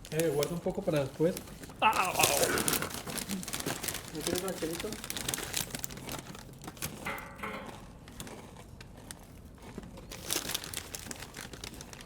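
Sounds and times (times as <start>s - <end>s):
snack bag crinkling: 0.0s - 12.0s.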